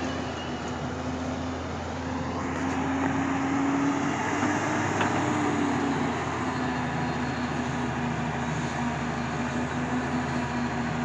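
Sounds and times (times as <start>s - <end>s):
excavator diesel engine: 0.0s - 11.0s.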